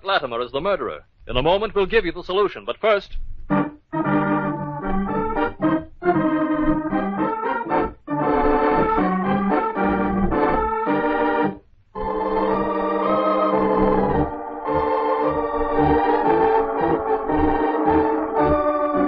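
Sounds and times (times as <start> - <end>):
organ chords: 3.4 - 19.0.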